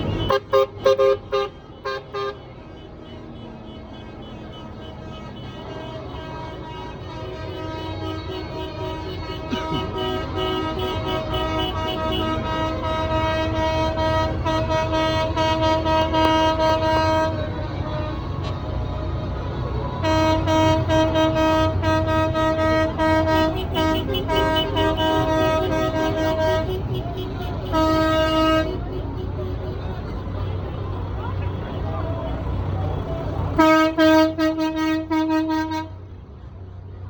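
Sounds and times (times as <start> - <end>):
tractor horns blasting: 0.0 - 36.3
tractor engines rumbling: 0.0 - 37.0.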